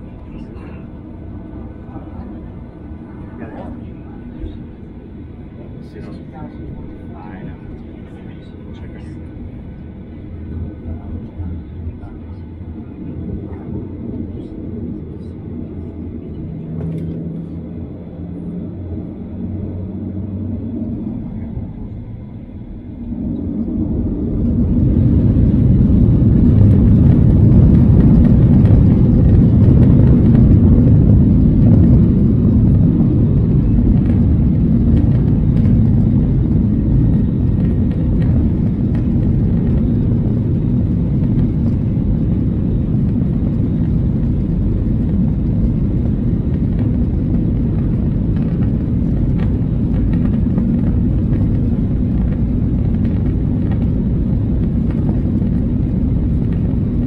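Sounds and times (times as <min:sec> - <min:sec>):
jet engines heard from cabin: 0:00.0 - 0:57.0.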